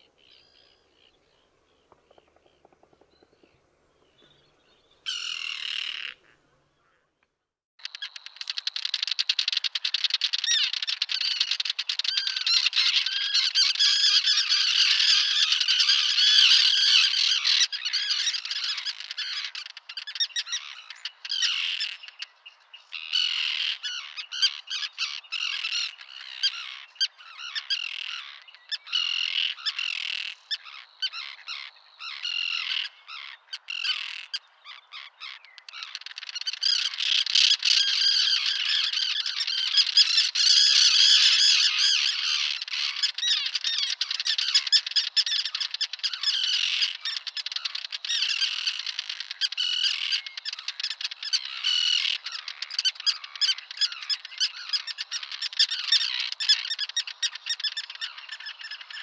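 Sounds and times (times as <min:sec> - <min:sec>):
terns calling harshly: 0:05.0 - 0:07.2, 0:07.8 - 0:59.0.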